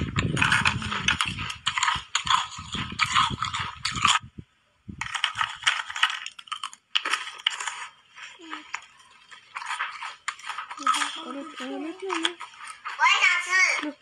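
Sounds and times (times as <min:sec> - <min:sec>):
ice being chewed: 0:00.0 - 0:04.3, 0:05.0 - 0:14.0.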